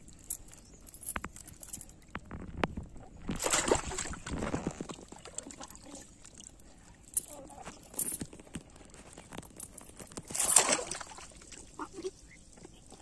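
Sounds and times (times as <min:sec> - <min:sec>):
muddy water sloshing: 0:02.0 - 0:13.0.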